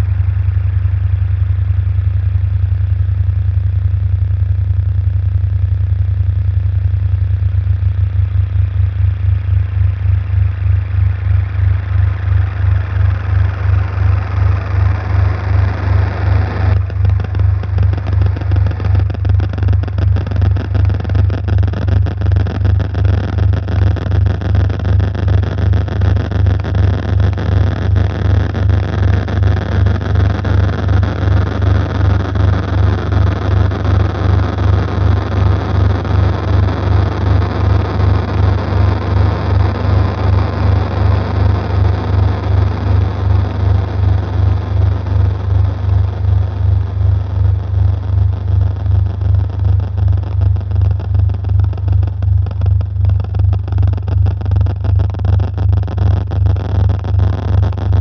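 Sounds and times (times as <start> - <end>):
throbbing low bass drone: 0.0 - 58.0
hissing crackly noise texture: 7.4 - 58.0.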